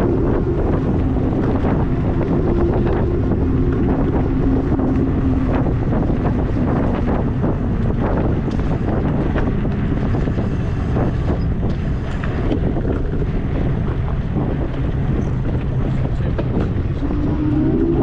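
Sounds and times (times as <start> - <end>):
low rumble: 0.0 - 18.0
wind buffeting microphone: 0.0 - 18.0.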